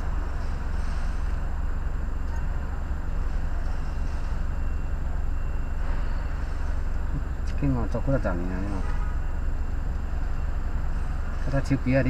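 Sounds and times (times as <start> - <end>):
vehicle interior road rumble: 0.0 - 12.0.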